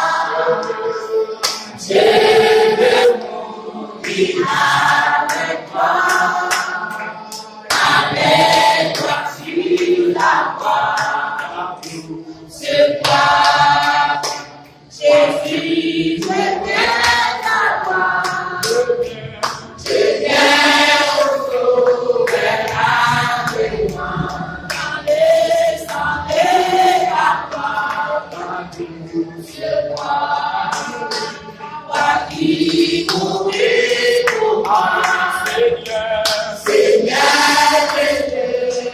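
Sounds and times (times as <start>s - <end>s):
group singing a hymn: 0.0s - 38.9s.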